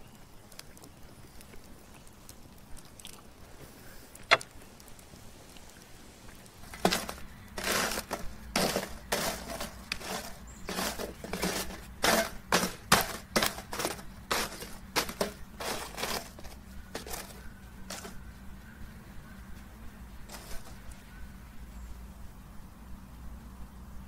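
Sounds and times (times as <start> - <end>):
charcoal crunching and crackling: 0.0 - 21.2.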